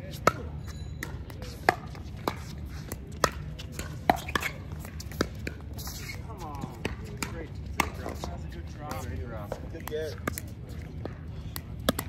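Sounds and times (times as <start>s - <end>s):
paddles hitting plastic ball: 1.0s - 12.0s.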